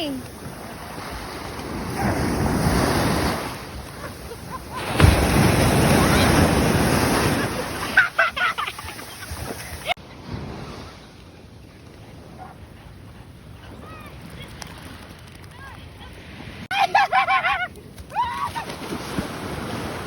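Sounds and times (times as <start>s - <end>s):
ocean waves breaking: 0.0s - 20.0s.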